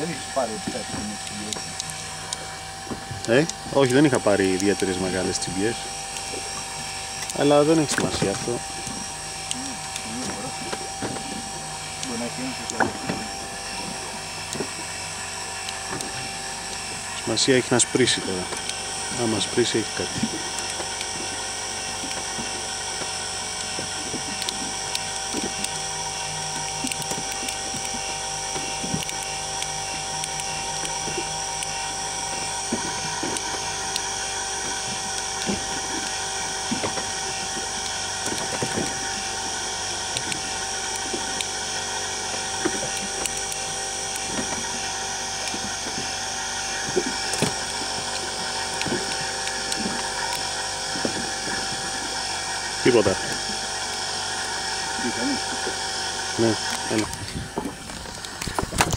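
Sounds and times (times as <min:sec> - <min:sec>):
boat engine droning: 0:00.0 - 0:58.9.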